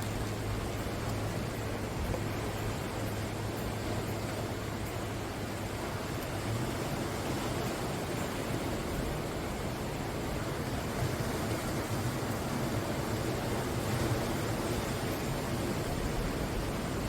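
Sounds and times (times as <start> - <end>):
ocean surf washing on shore: 0.0 - 17.0.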